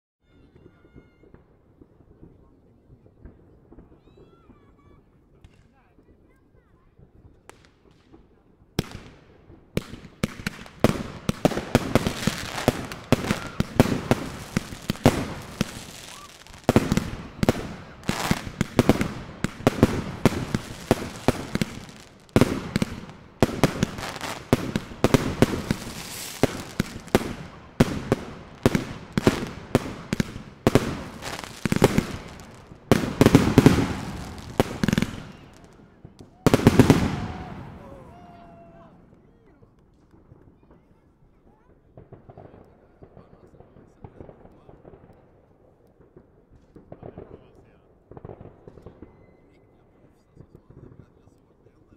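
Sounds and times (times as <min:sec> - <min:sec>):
fireworks bangs and crackles: 0:00.2 - 0:51.9.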